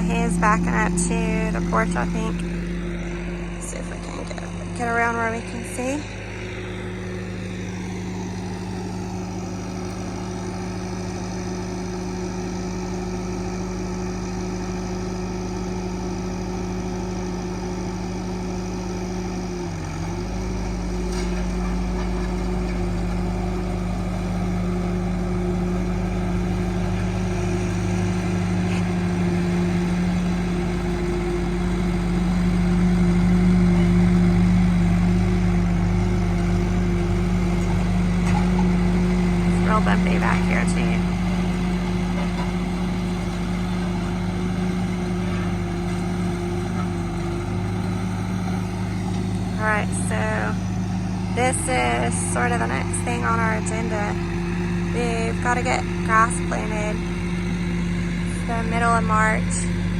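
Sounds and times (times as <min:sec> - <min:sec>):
farm tractor engine running: 0:00.0 - 0:59.9.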